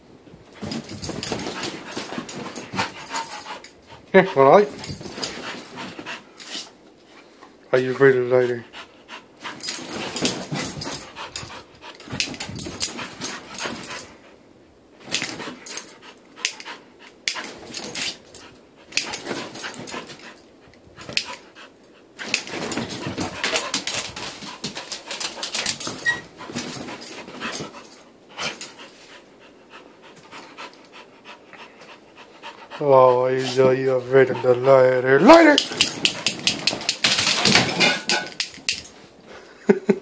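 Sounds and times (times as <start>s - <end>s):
dog scuffling and snuffling: 0.4s - 7.5s, 8.6s - 14.2s, 15.0s - 39.0s.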